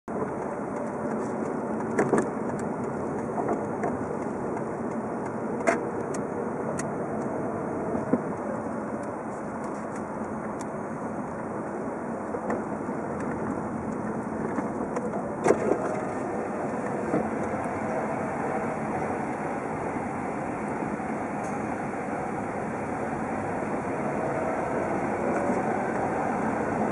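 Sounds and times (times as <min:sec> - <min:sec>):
car engine and road noise: 0:00.1 - 0:26.9.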